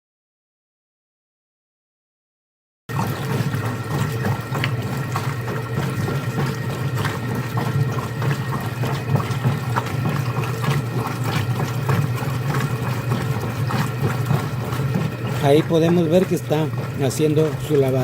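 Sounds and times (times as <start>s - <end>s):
washing machine motor hum: 2.9s - 18.0s.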